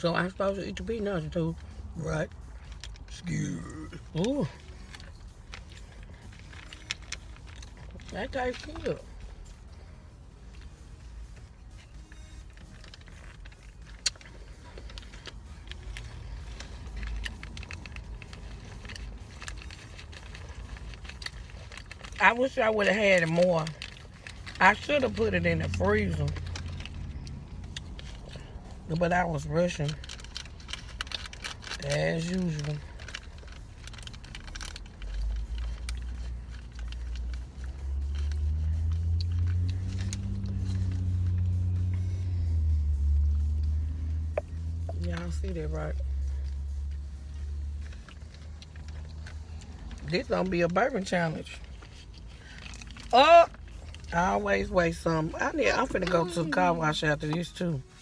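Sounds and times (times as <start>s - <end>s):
steady low rumble: 0.0s - 58.0s
peanuts being chewed: 10.6s - 58.0s.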